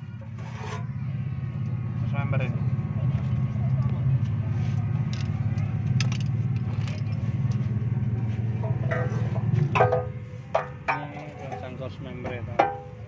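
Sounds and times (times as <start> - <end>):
engine fluttering hum: 0.0 - 13.0.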